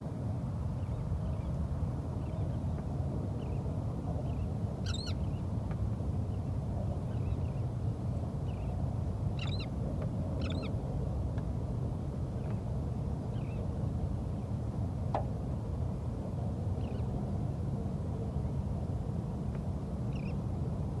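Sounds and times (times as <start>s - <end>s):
low rumble of boat and water: 0.0s - 21.0s.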